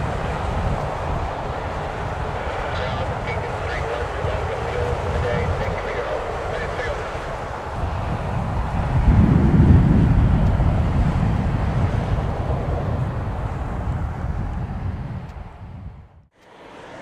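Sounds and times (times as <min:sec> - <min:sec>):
wind on microphone: 0:00.0 - 0:16.3
airliner engines rumbling: 0:00.0 - 0:17.0.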